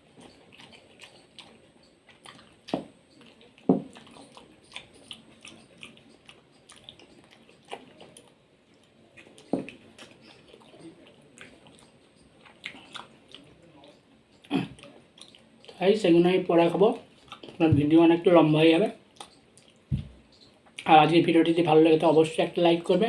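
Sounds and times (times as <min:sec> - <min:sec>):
wet chewing: 0:00.0 - 0:18.3, 0:18.9 - 0:21.2.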